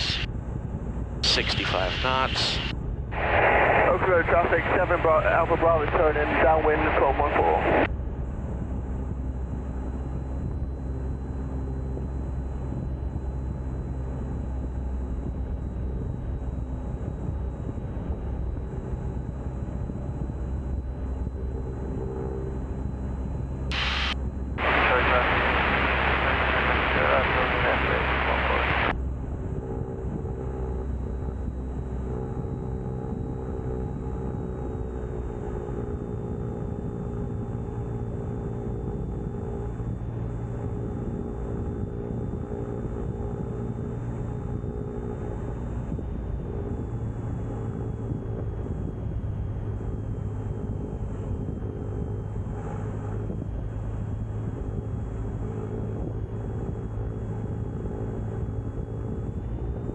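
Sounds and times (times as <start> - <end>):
propeller plane engine from cockpit: 0.0 - 59.9.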